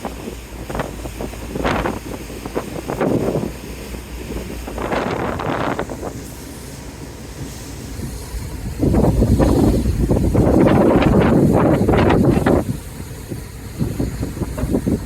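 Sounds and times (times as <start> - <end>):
ship low rumble: 0.0 - 15.0
wind buffeting microphone: 0.0 - 15.0.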